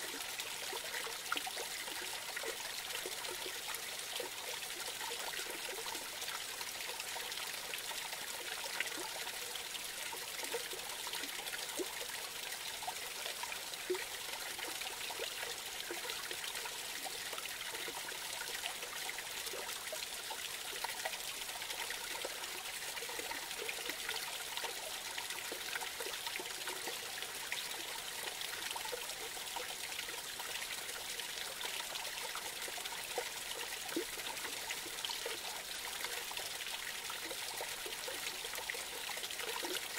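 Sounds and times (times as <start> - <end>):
creek trickling over cascade: 0.0 - 39.9.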